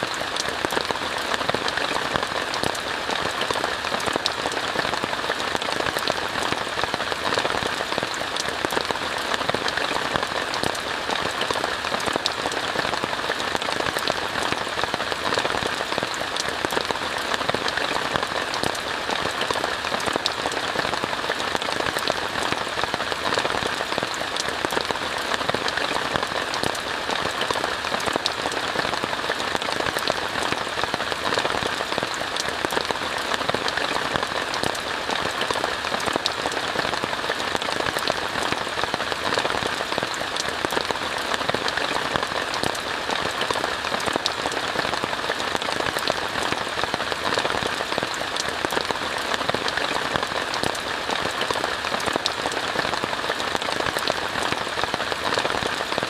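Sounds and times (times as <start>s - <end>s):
rain falling on a tent: 0.0s - 56.0s.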